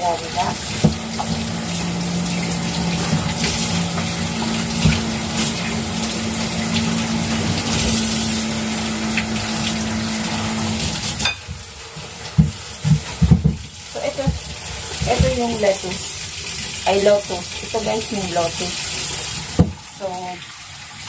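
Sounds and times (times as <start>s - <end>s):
tap water running into sink: 0.0s - 21.0s.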